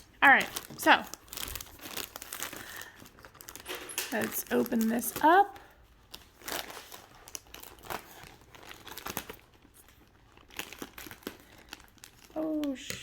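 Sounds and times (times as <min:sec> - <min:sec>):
package wrapping crinkling and tearing: 0:00.0 - 0:13.0.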